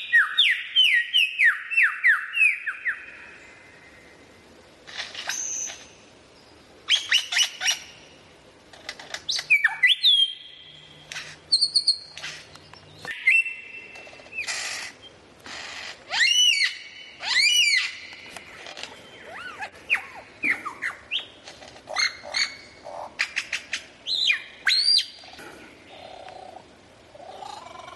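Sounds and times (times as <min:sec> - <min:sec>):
songbird singing: 0:00.0 - 0:27.9.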